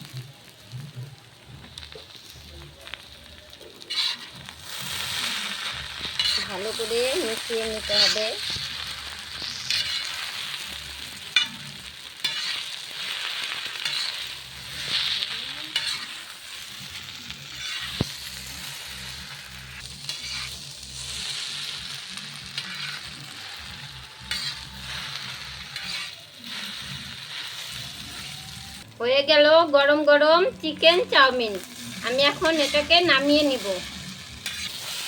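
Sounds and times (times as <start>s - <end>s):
noodles sizzling in a pan: 0.0s - 35.0s.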